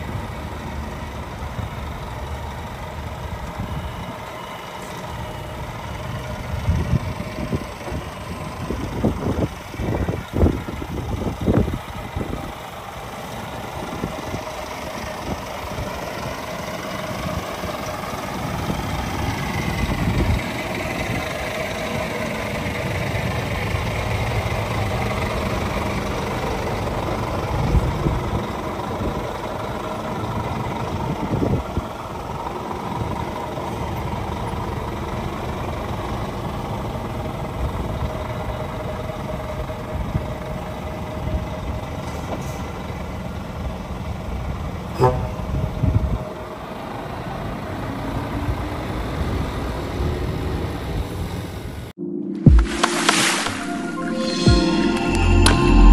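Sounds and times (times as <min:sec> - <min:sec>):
truck diesel engine running: 0:00.0 - 0:51.8.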